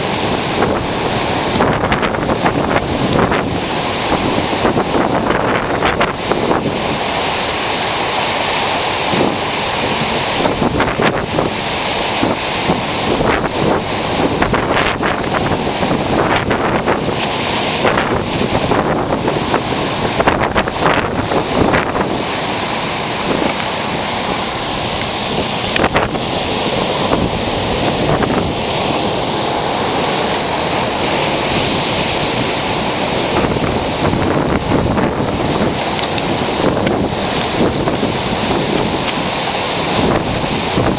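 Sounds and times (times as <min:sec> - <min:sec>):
ocean surf roaring: 0:00.0 - 0:40.9
wind buffeting microphone: 0:00.0 - 0:40.9.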